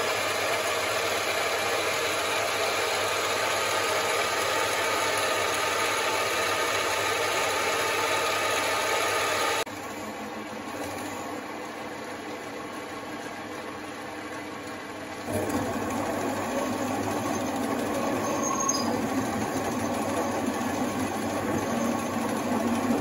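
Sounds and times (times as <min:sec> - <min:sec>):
metal lathe running: 0:00.0 - 0:11.5, 0:15.2 - 0:23.0.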